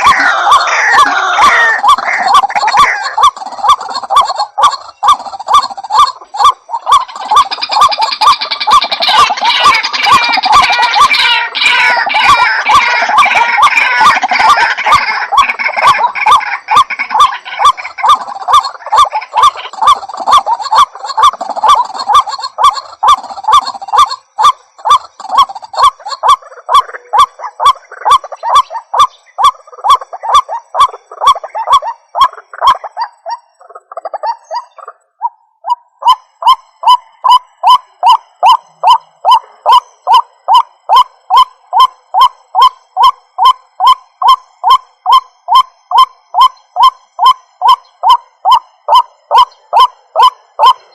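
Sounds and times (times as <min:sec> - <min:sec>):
waterhen calling: 0:00.0 - 0:50.9.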